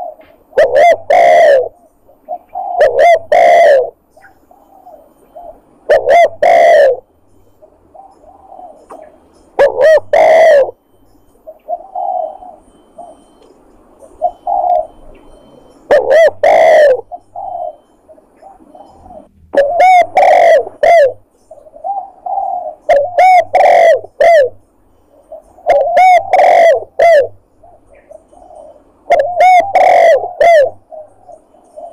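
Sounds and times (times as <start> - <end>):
dove cooing: 0.0 - 31.9.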